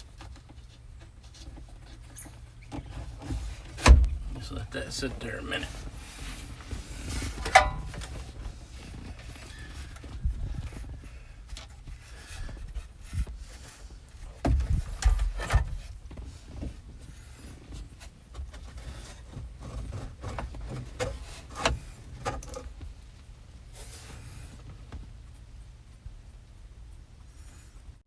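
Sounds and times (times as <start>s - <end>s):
duct hose rubbing and scraping: 0.0s - 24.9s.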